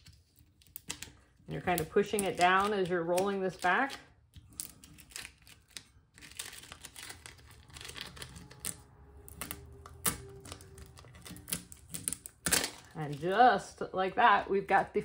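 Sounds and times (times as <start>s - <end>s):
tape crinkling: 0.0s - 13.5s.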